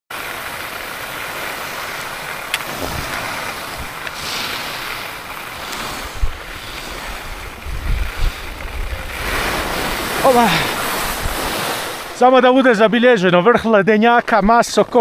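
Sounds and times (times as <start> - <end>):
wind rushing hiss on microphone: 0.2 - 12.2.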